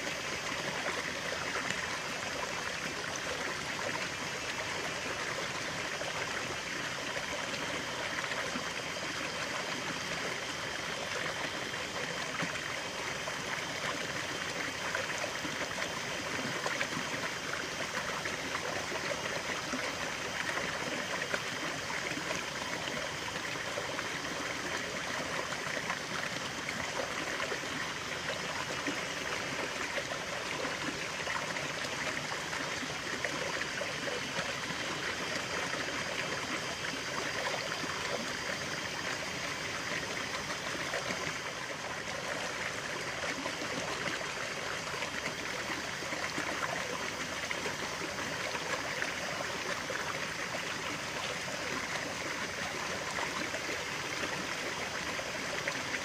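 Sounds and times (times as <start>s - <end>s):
stream babbling: 0.0s - 56.0s.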